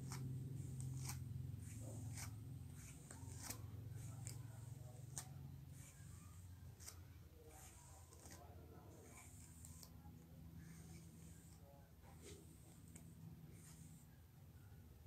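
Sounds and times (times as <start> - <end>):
comb scratching through hair: 0.0 - 14.1.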